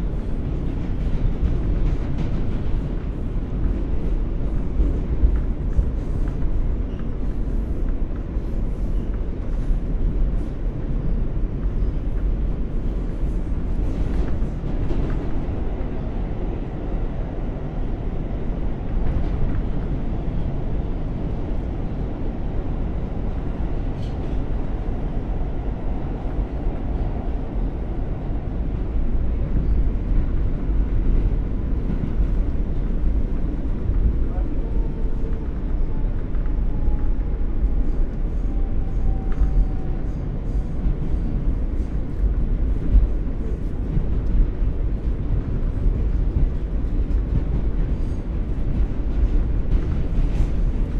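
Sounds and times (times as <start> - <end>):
subway wheels rumbling: 0.0 - 50.9.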